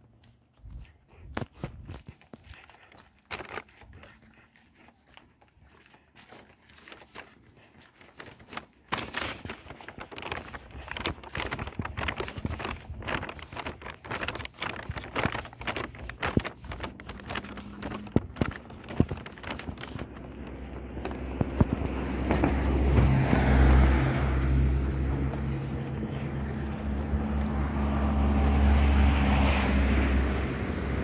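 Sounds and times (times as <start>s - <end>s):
footsteps on pavement: 0.0s - 31.0s
vehicle low hum: 0.0s - 31.0s.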